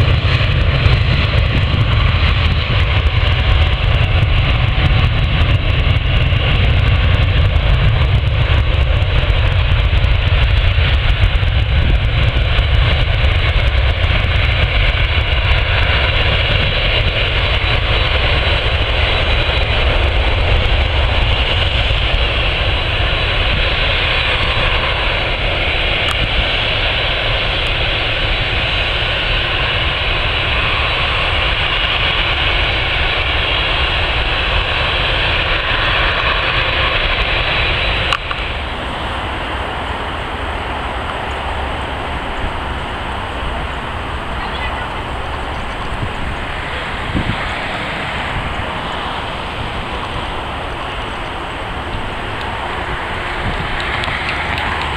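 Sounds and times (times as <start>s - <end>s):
jet engines rumbling: 0.0s - 54.9s
engine hiss: 0.1s - 54.9s.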